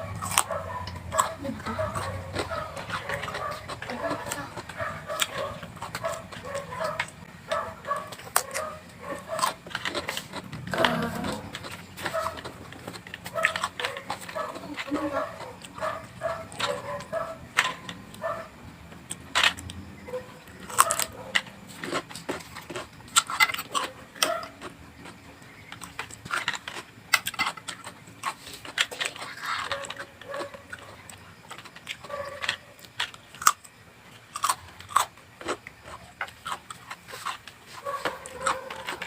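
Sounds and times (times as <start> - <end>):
crunching raw vegetables: 0.0 - 39.0.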